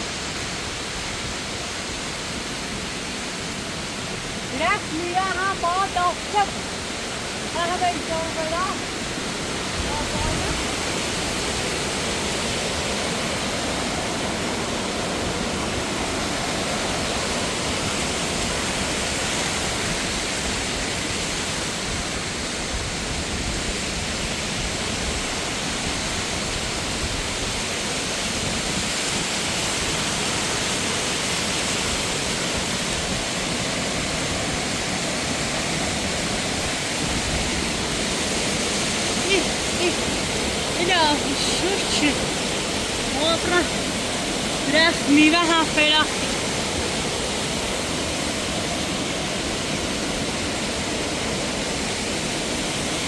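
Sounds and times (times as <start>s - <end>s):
waterfall roaring: 0.0s - 53.0s.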